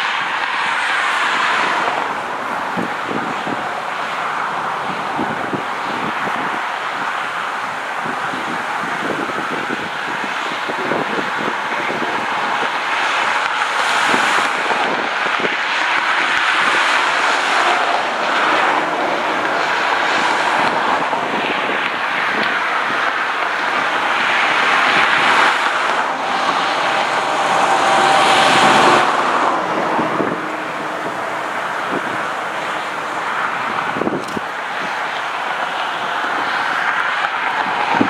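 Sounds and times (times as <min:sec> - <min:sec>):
vehicle noise: 0:00.0 - 0:38.0
wind on microphone: 0:00.0 - 0:38.0.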